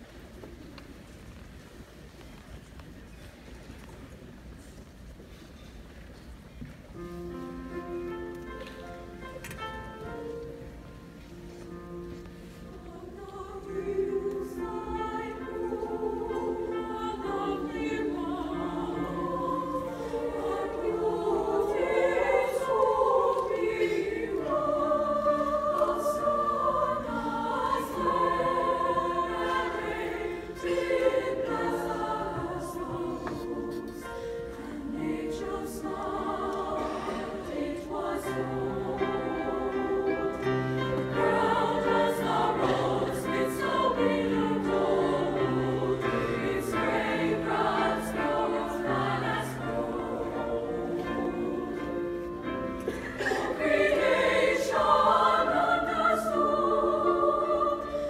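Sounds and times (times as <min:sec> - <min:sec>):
piano accompaniment: 0:07.0 - 0:58.0
women's choir singing: 0:08.9 - 0:58.0.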